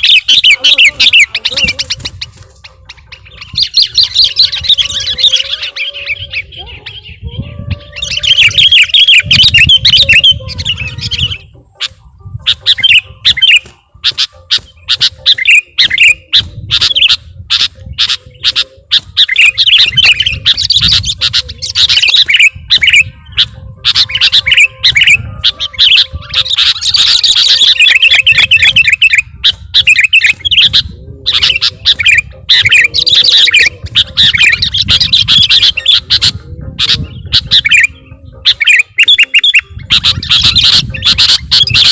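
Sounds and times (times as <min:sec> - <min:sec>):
bulbul singing: 0:00.0 - 0:41.9.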